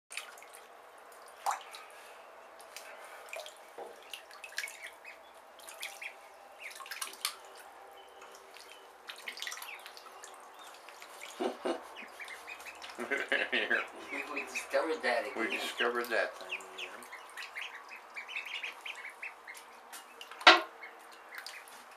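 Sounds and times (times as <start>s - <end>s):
ducklings splashing in water: 0.1s - 21.9s.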